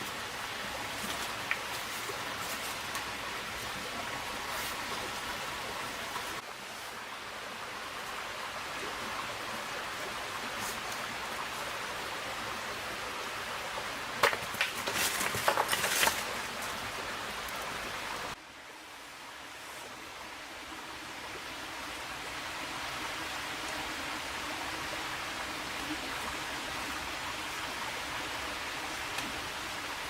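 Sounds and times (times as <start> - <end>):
steady hiss of water: 0.0 - 30.0.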